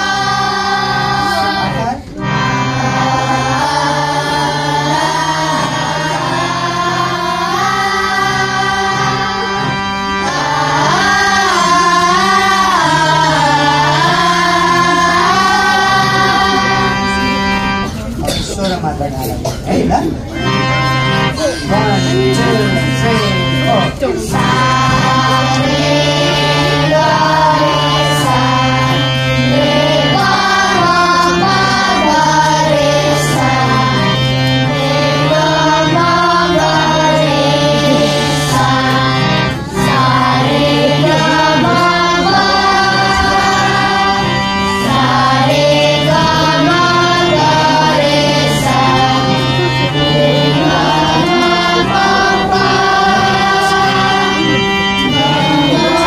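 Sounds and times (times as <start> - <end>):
person singing: 0.0 - 17.5, 21.2 - 56.0
held keyboard chords: 0.0 - 56.0.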